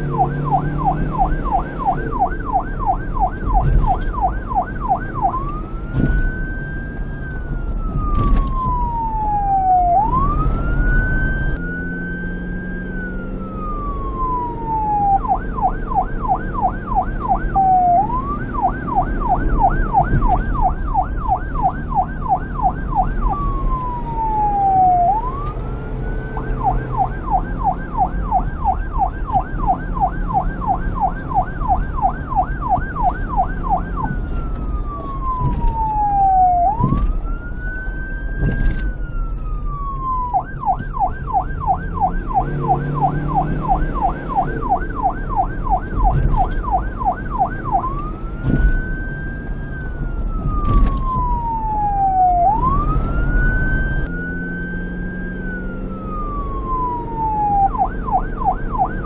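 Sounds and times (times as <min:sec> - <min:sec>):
police siren wail and yelp: 0:00.0 - 0:59.0.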